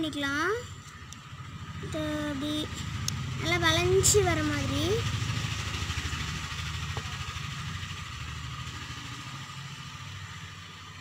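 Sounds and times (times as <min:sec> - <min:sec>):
engine pulsing rumble: 0:00.0 - 0:11.0.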